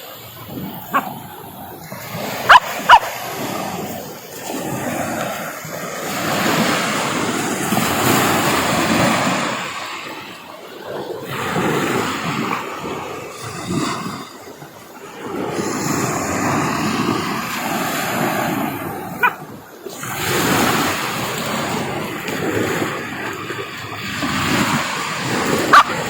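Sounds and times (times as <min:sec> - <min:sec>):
sea surf washing onto shore: 0:00.0 - 0:26.0.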